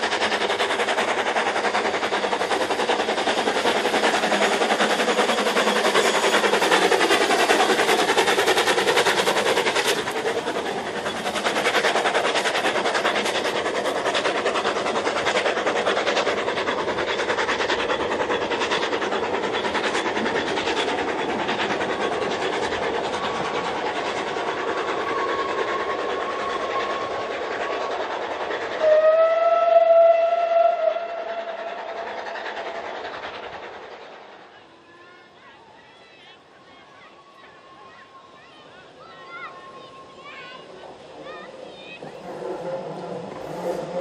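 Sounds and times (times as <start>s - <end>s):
steam exhaust beat: 0.0s - 34.6s, 39.4s - 44.0s
wheels clicking on rails: 0.0s - 34.7s, 35.8s - 44.0s.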